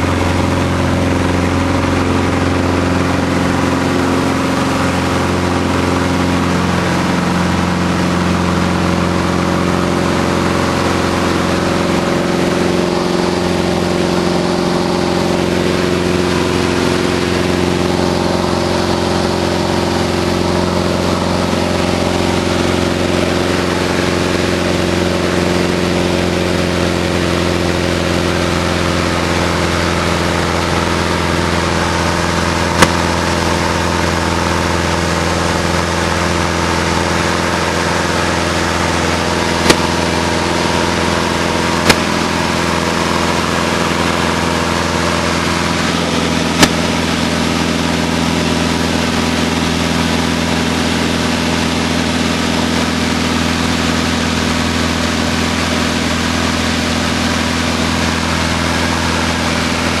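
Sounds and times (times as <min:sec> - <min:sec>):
light aircraft engine drone: 0:00.0 - 1:00.0.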